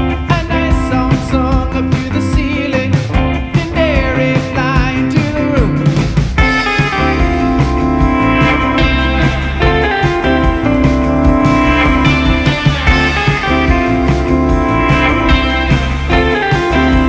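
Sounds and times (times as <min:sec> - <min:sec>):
rock song with guitar: 0:00.0 - 0:17.0
sliding lead guitar line: 0:00.0 - 0:17.0.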